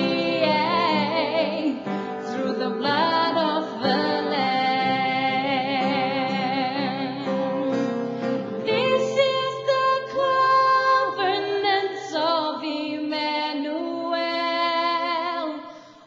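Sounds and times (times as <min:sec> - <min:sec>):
woman singing gospel: 0:00.0 - 0:08.0, 0:08.6 - 0:15.7.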